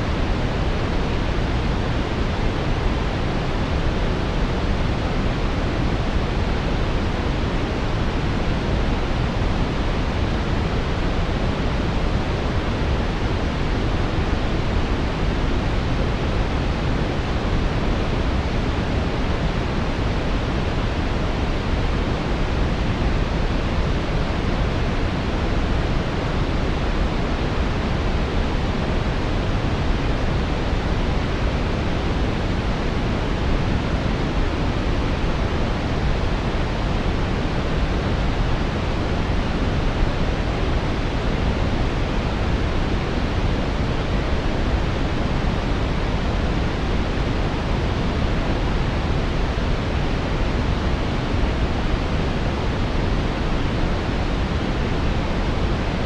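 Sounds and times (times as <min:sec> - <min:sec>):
brown noise rumbling hiss: 0:00.0 - 0:56.0.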